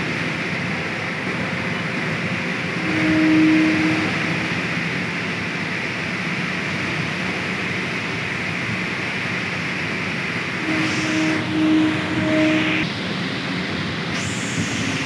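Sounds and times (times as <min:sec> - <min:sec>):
crane machine hum and hiss: 0:00.0 - 0:15.0.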